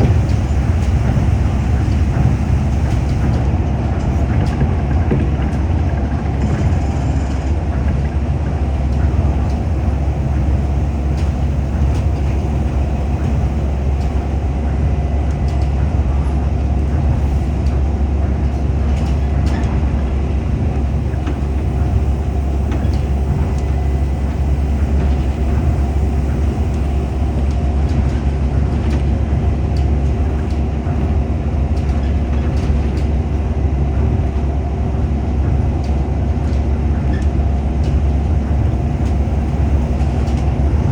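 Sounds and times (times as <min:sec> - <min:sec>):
monorail train rumbling: 0:00.0 - 0:40.9.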